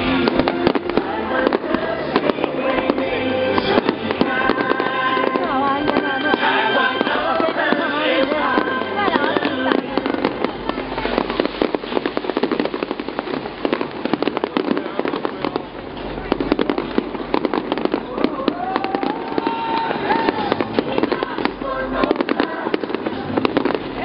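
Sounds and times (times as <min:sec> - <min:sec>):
music or voices: 0:00.0 - 0:12.0, 0:12.6 - 0:24.0
fireworks crackling: 0:00.0 - 0:24.0.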